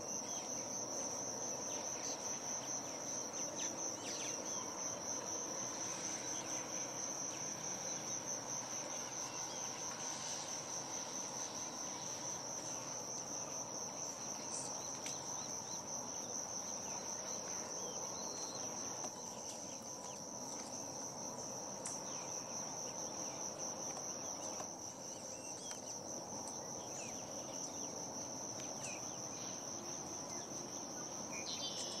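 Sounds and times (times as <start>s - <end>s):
high-pitched insect trill: 0.0s - 32.0s
low background noise: 0.0s - 32.0s.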